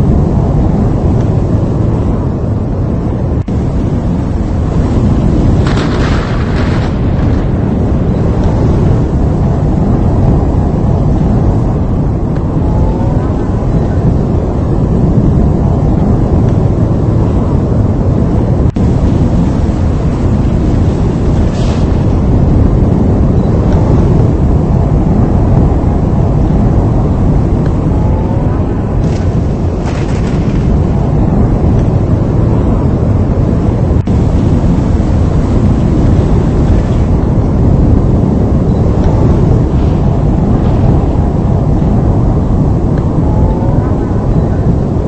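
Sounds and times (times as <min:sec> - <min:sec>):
strong wind buffeting microphone: 0:00.0 - 0:45.0.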